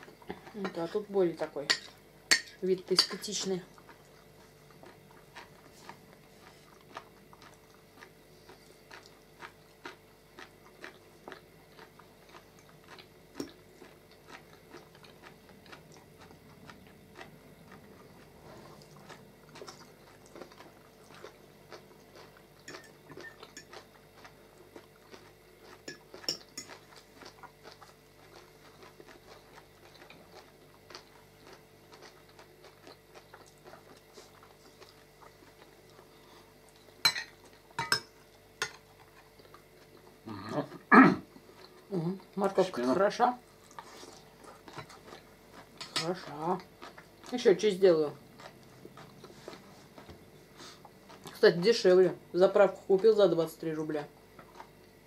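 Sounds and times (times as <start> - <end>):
faint steady hum: 0.0 - 55.0
soft chewing: 0.0 - 55.0.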